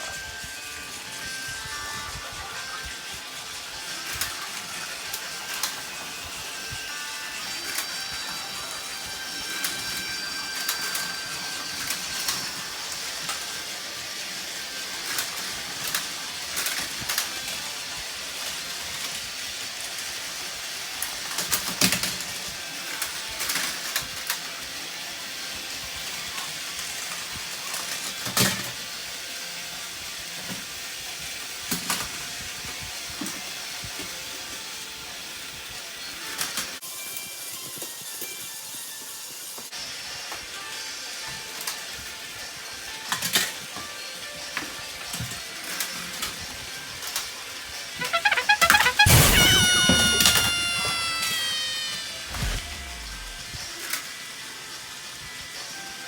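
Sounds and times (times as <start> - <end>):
toy train track clacks: 0.0 - 52.3, 53.6 - 56.0
toy train whirring: 0.0 - 56.0.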